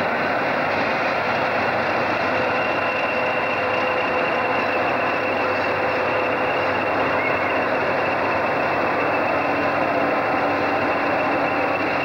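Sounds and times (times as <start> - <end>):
diesel locomotive engine drone: 0.0 - 12.0
faint whistling tones: 2.2 - 12.0.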